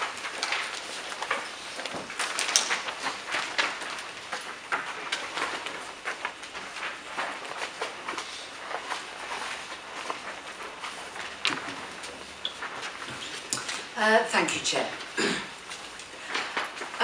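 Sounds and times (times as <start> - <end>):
paper sheets rustling: 0.0 - 17.0.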